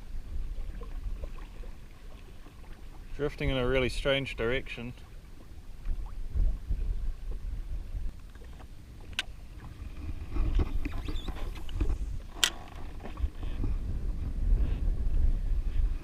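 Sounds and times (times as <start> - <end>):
water lapping against hull: 0.0 - 16.0
wind rumble on microphone: 0.0 - 16.0.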